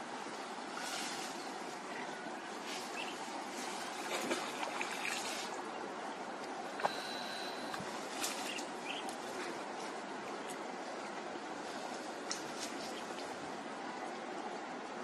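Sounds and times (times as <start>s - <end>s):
outdoor background hiss: 0.0s - 15.0s
water trickling with splashes: 0.8s - 14.9s.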